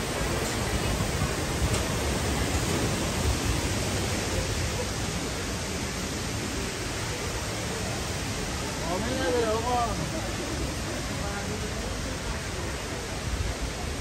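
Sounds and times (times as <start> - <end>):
mountain stream rushing over rocks: 0.0 - 14.0.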